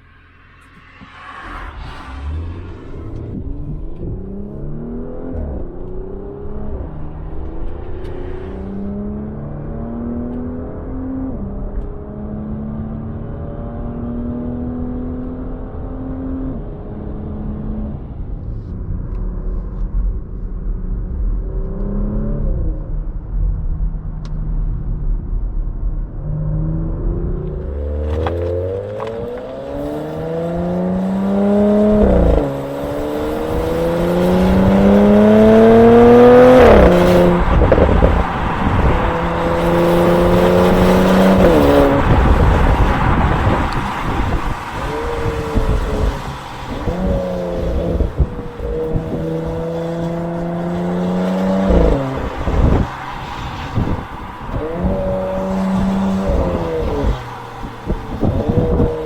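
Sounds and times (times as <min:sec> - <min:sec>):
car engine revving and accelerating: 0:00.0 - 0:59.0.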